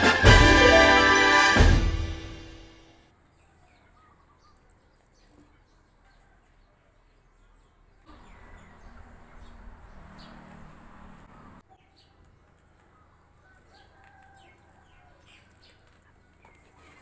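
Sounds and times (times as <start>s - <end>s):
small birds chirping: 3.2s - 17.0s.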